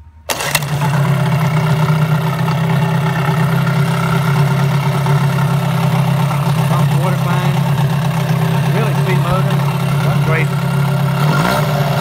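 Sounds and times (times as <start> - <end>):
outboard motor running: 0.3 - 12.0.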